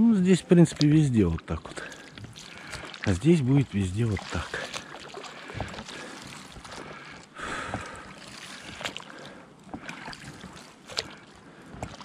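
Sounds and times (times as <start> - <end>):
oars splashing in water: 0.0 - 12.0
surge of water: 0.0 - 12.0.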